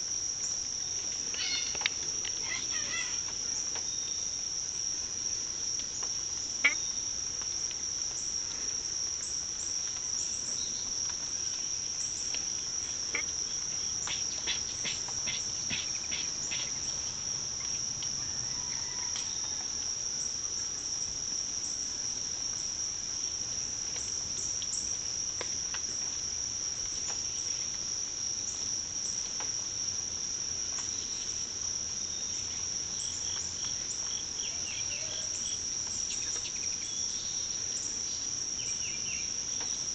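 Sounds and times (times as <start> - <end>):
insect trill: 0.0 - 39.9.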